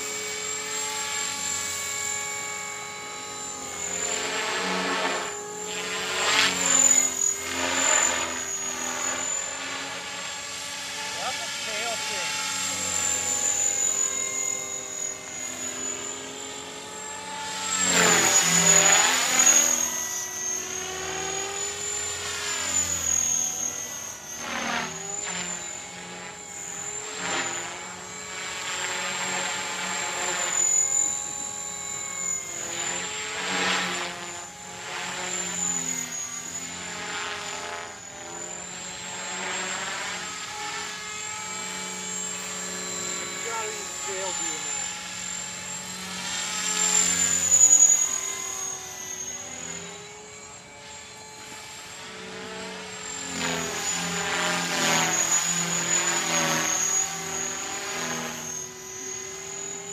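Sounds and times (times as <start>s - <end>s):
model helicopter rotor whine: 0.0s - 59.9s.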